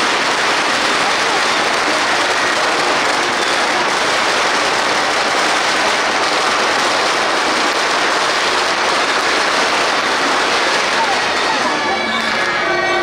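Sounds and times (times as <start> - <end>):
din of a large street crowd: 0.0 - 13.0.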